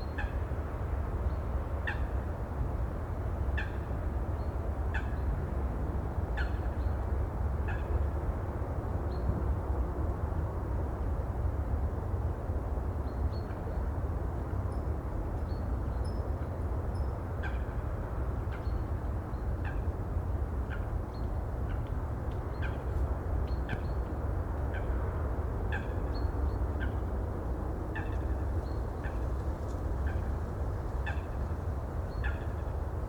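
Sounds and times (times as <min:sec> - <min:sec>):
sea and wind rumble: 0:00.0 - 0:33.0.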